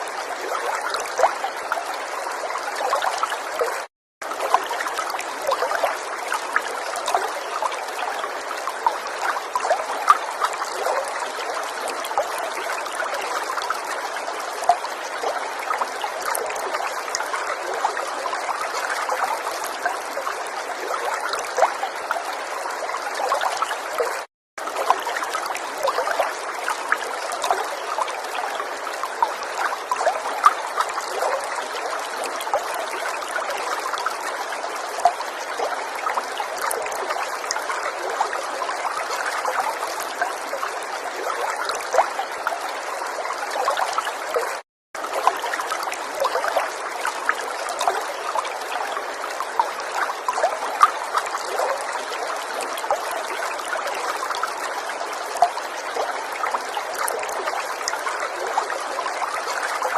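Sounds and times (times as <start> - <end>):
river water over stones: 0.0 - 59.9
small water splashes: 0.0 - 59.9.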